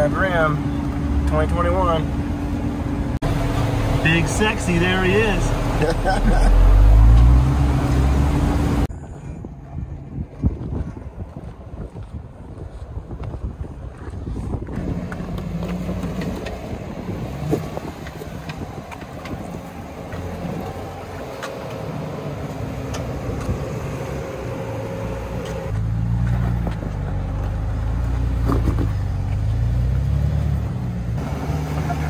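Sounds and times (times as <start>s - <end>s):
off-road engines crawling: 0.0s - 32.0s.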